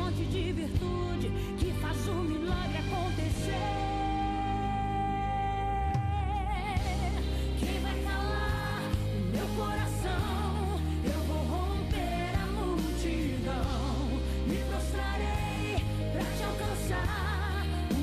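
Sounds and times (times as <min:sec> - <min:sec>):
backing track with bass and chords: 0:00.0 - 0:18.0
woman singing gospel: 0:00.0 - 0:18.0.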